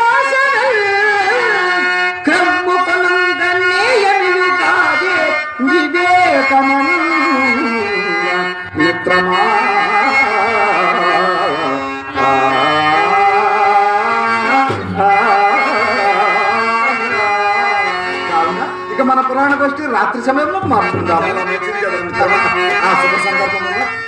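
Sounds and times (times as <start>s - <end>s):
harmonium melody: 0.0s - 24.0s
tabla: 0.0s - 24.0s.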